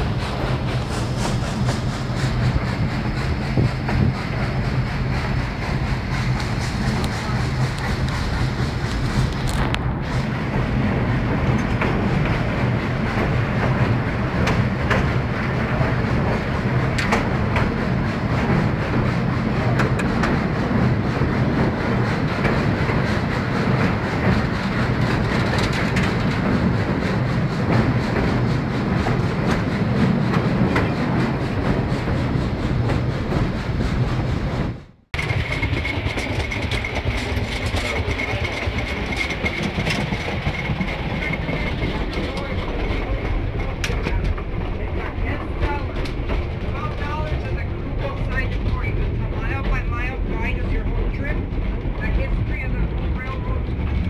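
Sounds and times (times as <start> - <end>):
railroad car rumbling on track: 0.0 - 54.0
wheels clicking over rails: 0.0 - 54.0.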